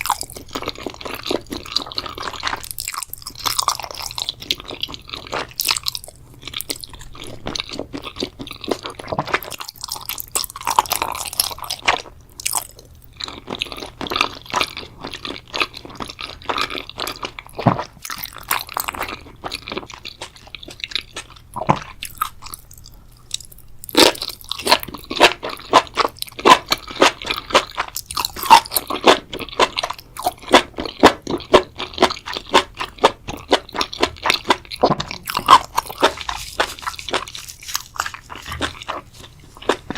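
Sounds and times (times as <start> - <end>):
wet crunchy chewing: 0.0 - 39.9.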